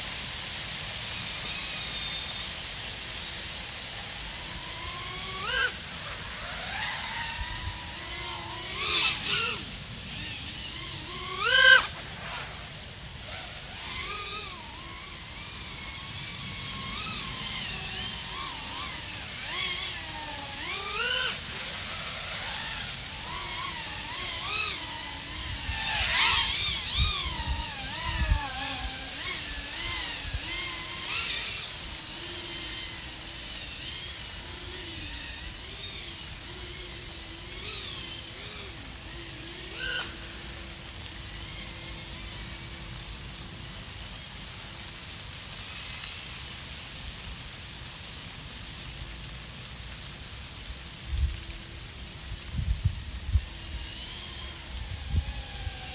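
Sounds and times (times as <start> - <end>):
drone motors and propellers whining: 0.0 - 45.8, 50.9 - 55.9.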